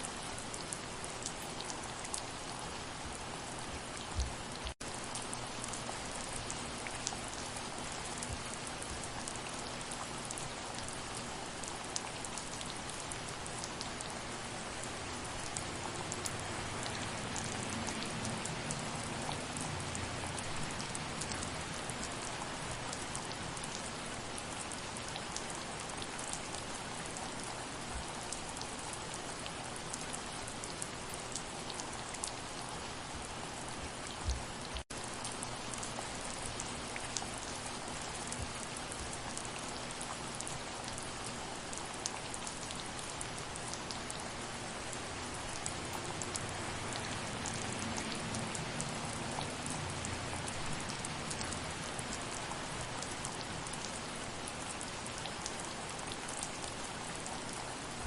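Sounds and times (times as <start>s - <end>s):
soft rain: 0.0s - 58.0s.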